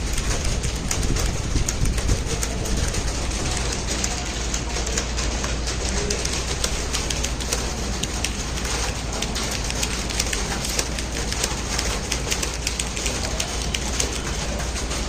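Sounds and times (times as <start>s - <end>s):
keyboard typing clicks: 0.0s - 15.0s.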